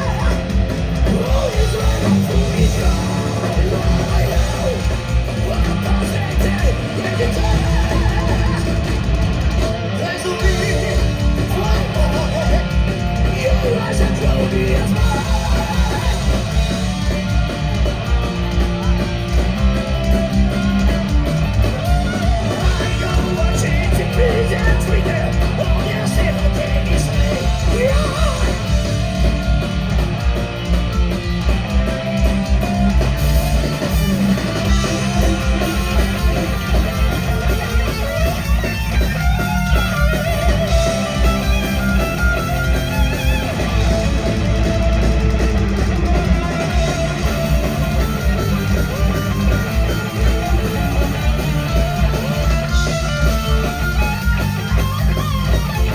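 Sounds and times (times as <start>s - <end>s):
bass: 0.0s - 55.9s
distorted electric guitars strumming: 0.0s - 55.9s.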